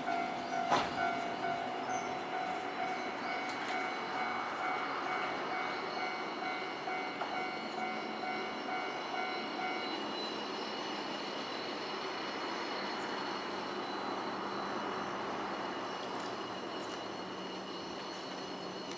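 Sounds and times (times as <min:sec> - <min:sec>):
cable car running on rails: 0:00.0 - 0:18.9
level crossing warning bell: 0:00.0 - 0:18.9.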